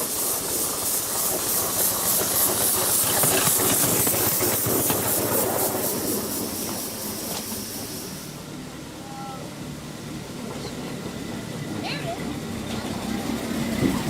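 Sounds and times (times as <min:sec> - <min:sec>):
wheels clicking on track: 0:00.0 - 0:08.3, 0:10.2 - 0:14.0
steam exhaust hissing in pulses: 0:00.0 - 0:11.6.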